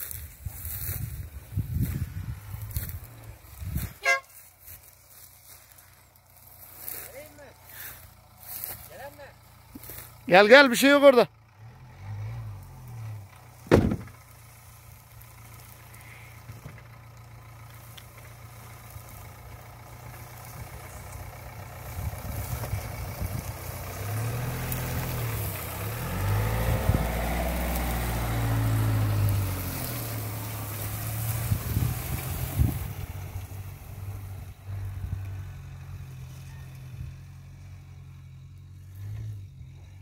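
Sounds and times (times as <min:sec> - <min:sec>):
tyres on rough grass: 0:00.0 - 0:11.0, 0:12.5 - 0:40.0
car engine at low speed: 0:00.0 - 0:40.0.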